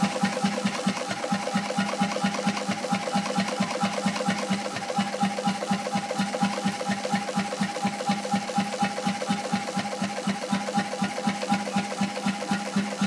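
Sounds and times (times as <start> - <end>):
marine engine running slowly: 0.0 - 13.0.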